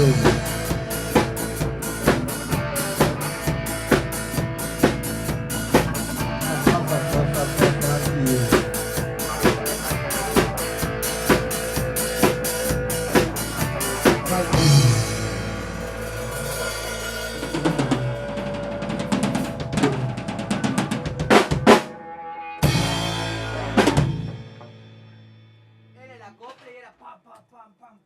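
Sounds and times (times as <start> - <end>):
drum kit beat: 0.0 - 21.9, 22.6 - 25.3.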